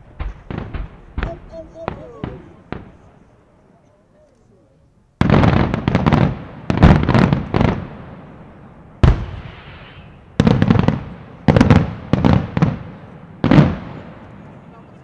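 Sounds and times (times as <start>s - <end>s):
firework bangs: 0.0s - 3.2s, 5.2s - 14.8s.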